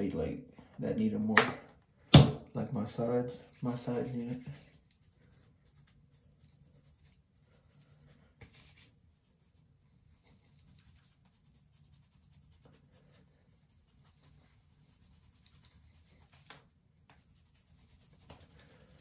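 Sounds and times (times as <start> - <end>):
fingers rustling through hair: 3.4 - 19.0.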